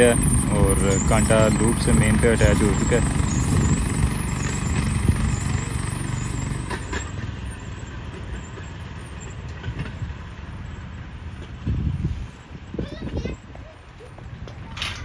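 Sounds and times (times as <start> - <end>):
motor trolley engine rumbling: 0.0 - 15.0.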